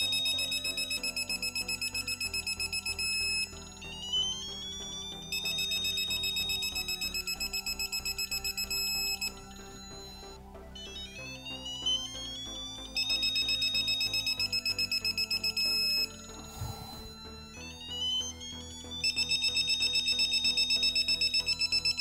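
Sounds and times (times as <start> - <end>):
torque wrench buzzer beeping: 0.0 - 10.3, 12.9 - 17.3, 17.9 - 22.0.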